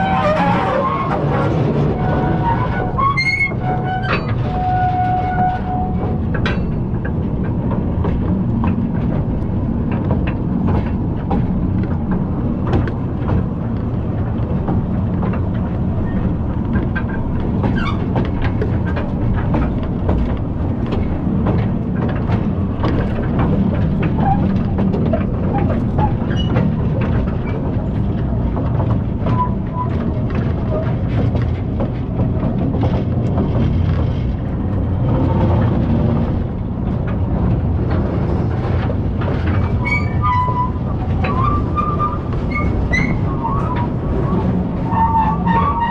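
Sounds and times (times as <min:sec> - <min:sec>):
mine trolley train rumbling on rails: 0:00.0 - 0:45.9
wheels clacking and knocking: 0:00.0 - 0:45.9.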